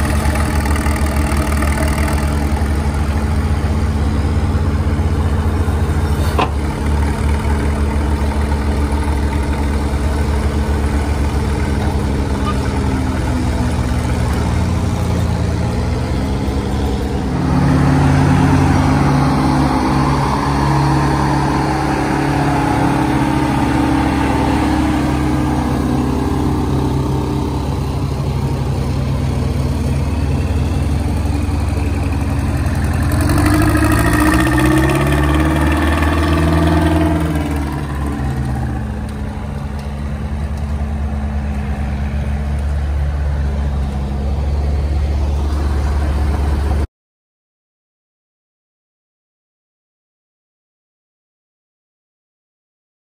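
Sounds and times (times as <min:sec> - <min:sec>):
backhoe engine running: 0:00.0 - 0:46.9.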